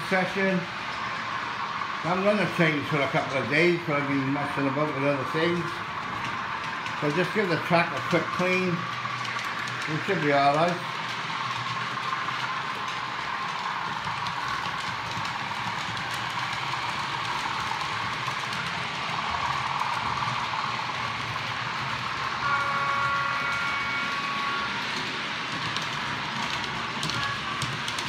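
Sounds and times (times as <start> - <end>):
model train motors whirring: 0.0 - 28.0.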